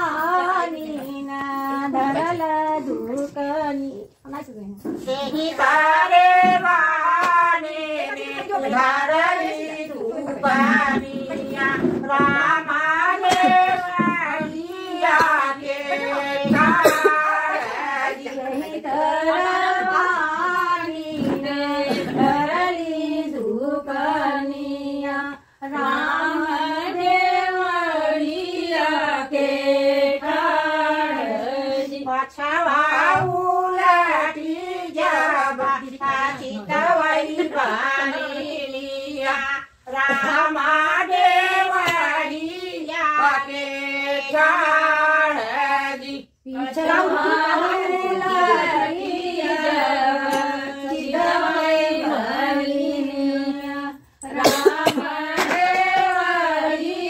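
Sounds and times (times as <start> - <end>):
women singing unaccompanied: 0.0 - 57.0.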